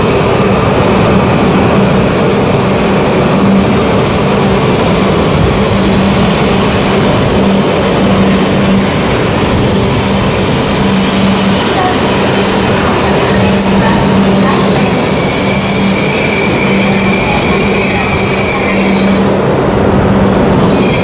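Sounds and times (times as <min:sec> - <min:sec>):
train rushing past: 0:00.0 - 0:21.0
wheel-on-rail noise: 0:00.0 - 0:21.0.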